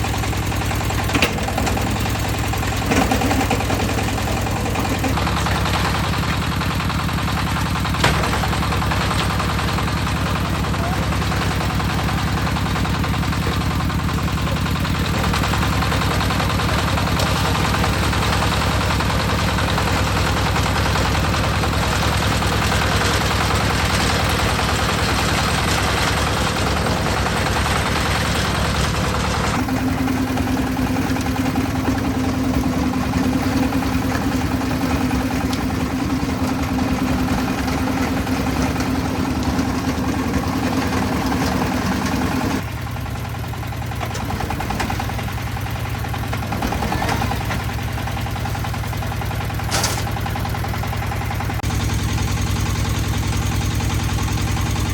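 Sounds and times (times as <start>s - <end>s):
concrete mixer engine running: 0.0s - 54.9s.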